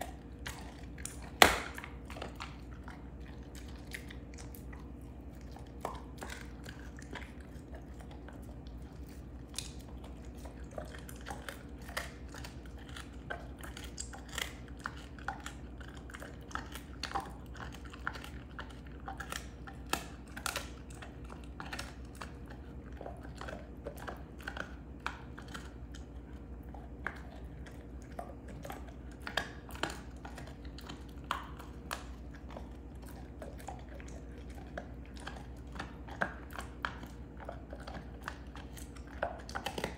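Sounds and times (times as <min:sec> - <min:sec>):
dog chewing and crunching bone: 0:00.0 - 0:39.9.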